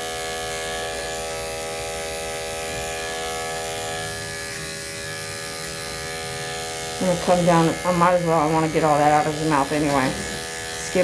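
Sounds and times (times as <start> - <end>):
electric clipper motor buzz: 0.0 - 11.0.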